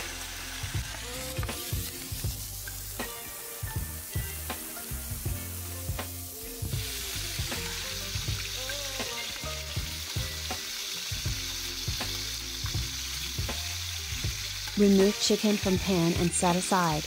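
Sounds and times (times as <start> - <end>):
background music with beat and bass: 0.0 - 15.1
chicken sizzling in a skillet: 0.0 - 17.0.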